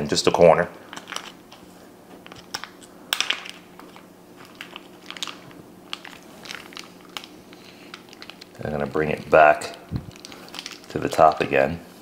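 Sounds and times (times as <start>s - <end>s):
plastic bag crinkling: 0.8s - 1.6s, 2.2s - 11.8s.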